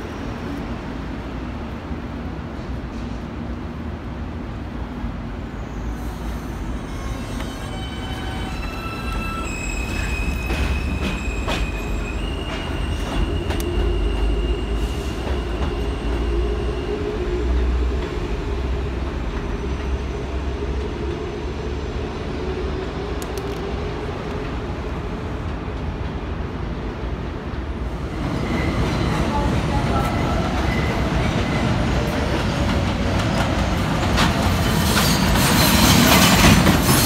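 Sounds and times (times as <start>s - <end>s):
train cars rumbling on track: 0.0s - 37.0s.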